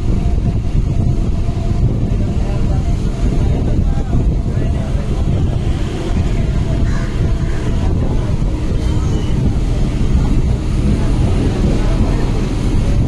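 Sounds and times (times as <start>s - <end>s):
electric train rumbling: 0.0s - 13.0s
wind buffeting microphone: 0.0s - 13.0s.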